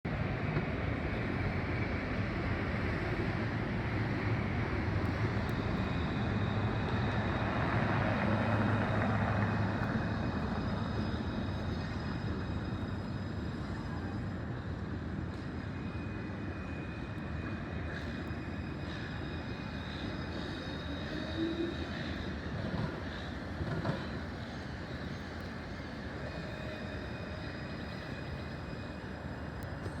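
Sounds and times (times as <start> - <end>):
tram rumbling on tracks: 0.0 - 30.0
faint high whining tones: 0.5 - 30.0.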